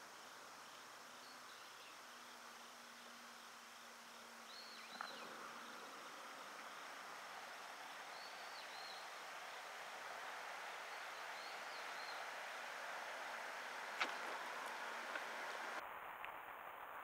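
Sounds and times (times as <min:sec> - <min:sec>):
flying insect buzzing: 0:00.0 - 0:15.8.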